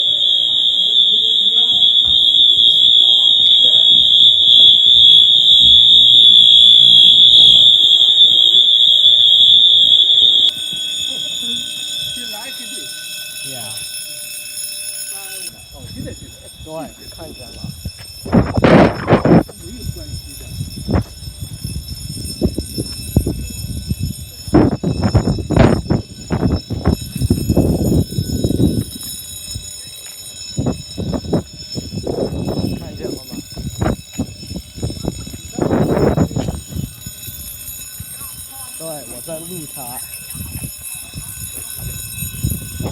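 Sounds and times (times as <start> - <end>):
fire alarm high-pitched tone: 0.0 - 42.9.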